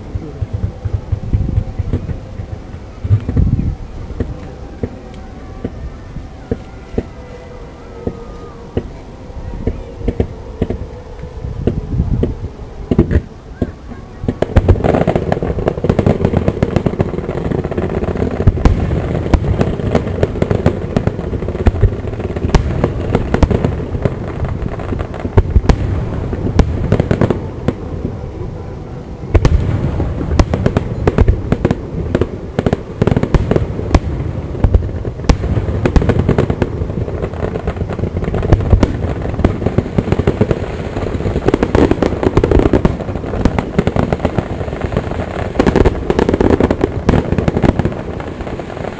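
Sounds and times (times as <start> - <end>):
fireworks booming and crackling: 0.0 - 48.9.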